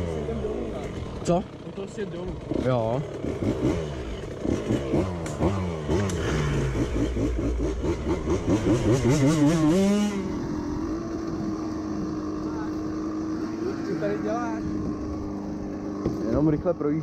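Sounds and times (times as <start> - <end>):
off-road engines revving: 0.0 - 17.0.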